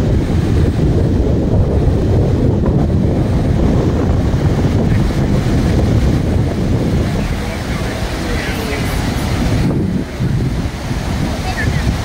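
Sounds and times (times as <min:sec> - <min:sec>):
water cascading over rocks: 0:00.0 - 0:12.0
wind buffeting the microphone: 0:00.0 - 0:12.0.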